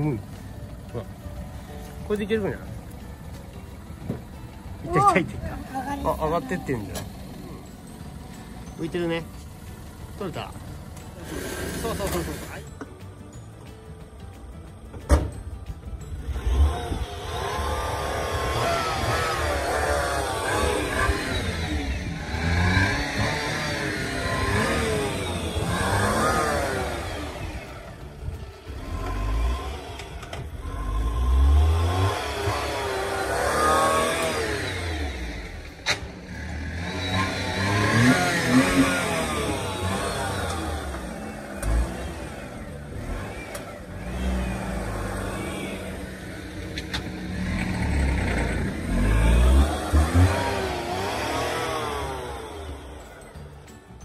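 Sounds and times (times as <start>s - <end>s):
small car engine revving: 1.0s - 12.7s, 16.2s - 54.0s.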